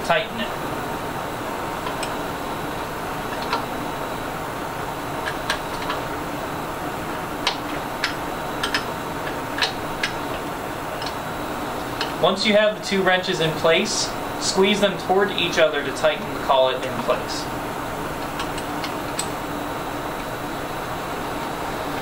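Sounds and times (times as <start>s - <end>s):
steady room hum: 0.0s - 22.0s.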